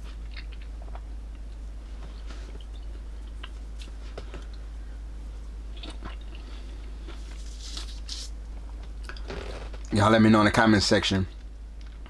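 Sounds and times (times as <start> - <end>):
person chewing juicy fruit: 0.0 - 9.8.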